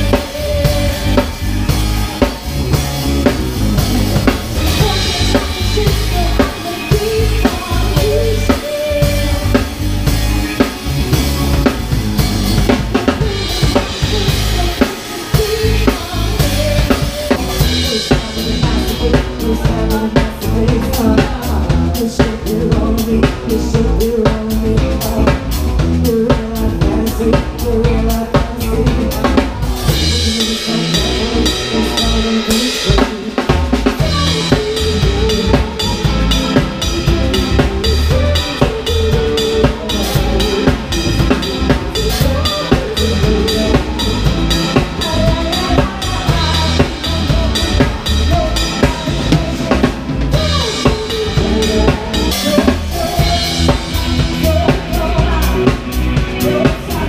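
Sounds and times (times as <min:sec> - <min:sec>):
live band playing: 0:00.0 - 0:57.0.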